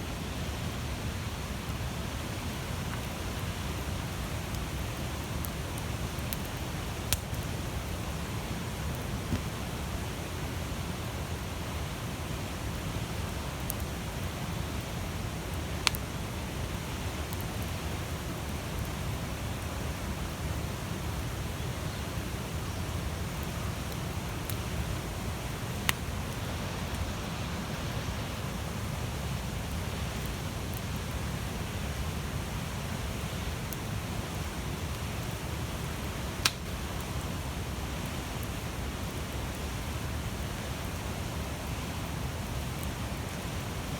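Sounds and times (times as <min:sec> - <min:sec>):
bonfire flames rushing: 0:01.3 - 0:21.4, 0:22.3 - 0:32.2, 0:33.0 - 0:39.1.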